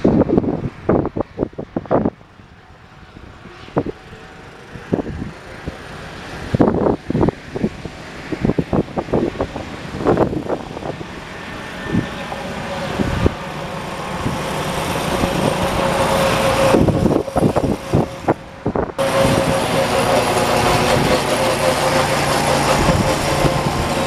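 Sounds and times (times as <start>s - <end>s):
wind buffeting microphone: 0.0s - 24.0s
lawn tractor engine running: 4.0s - 24.0s.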